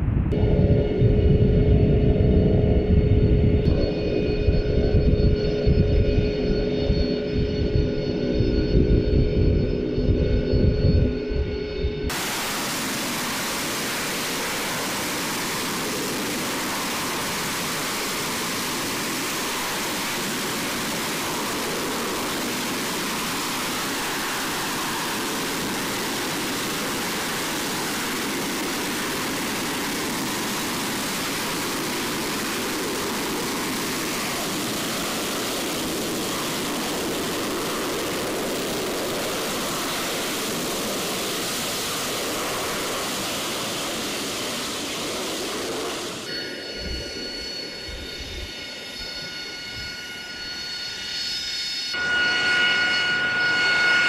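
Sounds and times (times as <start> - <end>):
jet aircraft hovering: 0.0 - 54.0.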